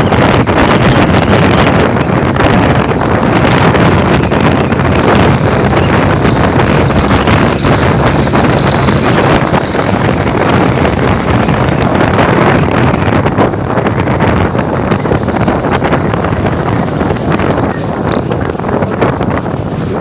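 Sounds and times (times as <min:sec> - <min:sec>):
motorcycle noise: 0:00.0 - 0:20.0
wind buffeting microphone: 0:00.0 - 0:20.0.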